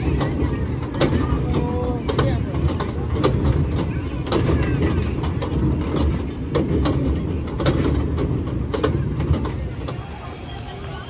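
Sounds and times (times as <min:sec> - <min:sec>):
mechanism clicks and clunks: 0:00.0 - 0:10.1
low rumble of spinning ride: 0:00.0 - 0:11.0.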